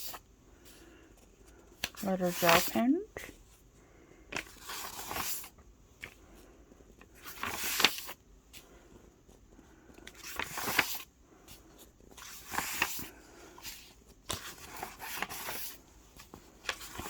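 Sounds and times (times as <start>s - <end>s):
paper pages turning: 1.2s - 2.8s, 4.3s - 6.2s, 6.8s - 17.0s.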